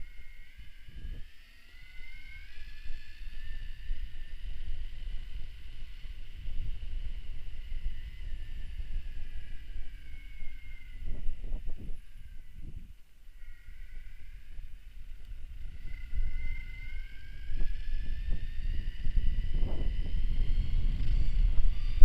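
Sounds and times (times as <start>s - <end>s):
electric bike motor whining: 0.0s - 22.0s.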